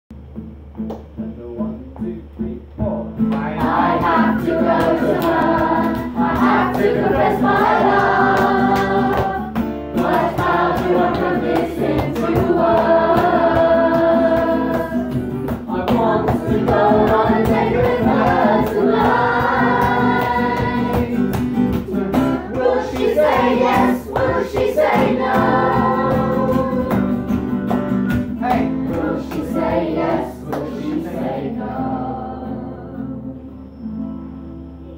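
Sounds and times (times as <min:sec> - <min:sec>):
acoustic guitar: 0:00.1 - 0:34.9
children and adults singing: 0:03.4 - 0:27.6, 0:28.2 - 0:33.7.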